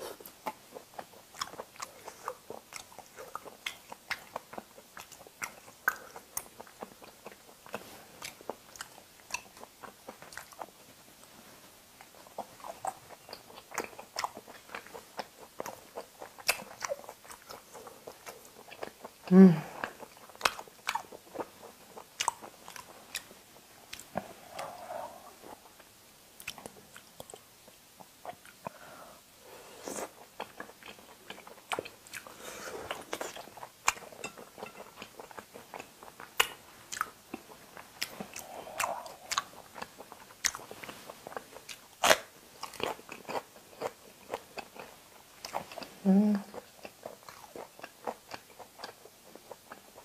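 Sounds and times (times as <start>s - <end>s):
person chewing and crunching food: 0.0s - 28.9s, 29.6s - 50.0s.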